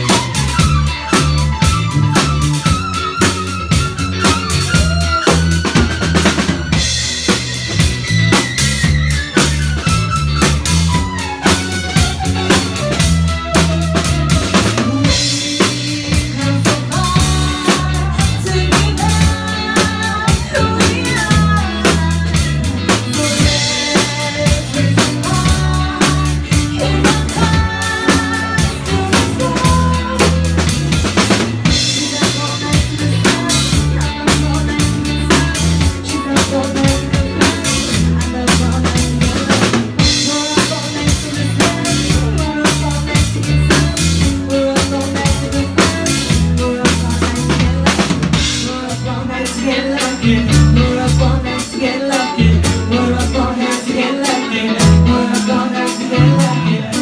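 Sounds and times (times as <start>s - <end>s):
bass drum and snare beat: 0.0s - 48.8s
rock band playing: 0.0s - 57.0s
woman singing: 0.0s - 57.0s.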